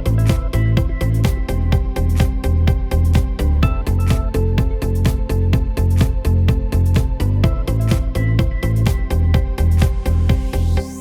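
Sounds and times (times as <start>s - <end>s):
electronic music with fast beat: 0.0s - 11.0s.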